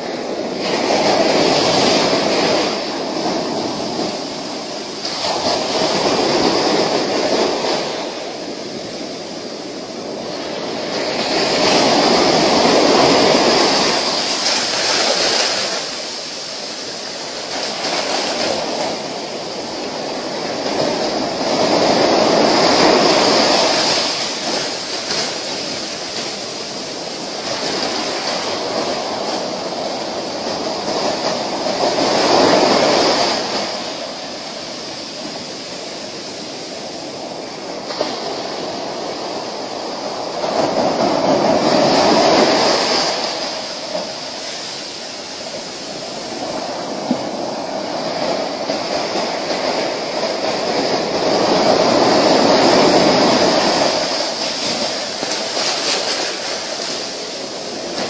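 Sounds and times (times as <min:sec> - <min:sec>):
ocean surf breaking on beach: 0:00.0 - 0:58.0.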